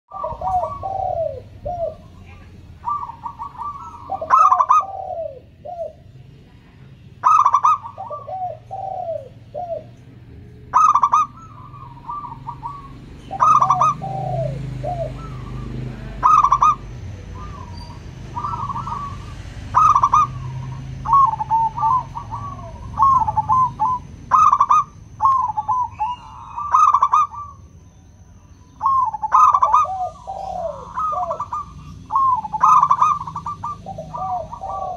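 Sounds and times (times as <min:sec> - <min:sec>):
doves cooing: 0:00.1 - 0:34.9.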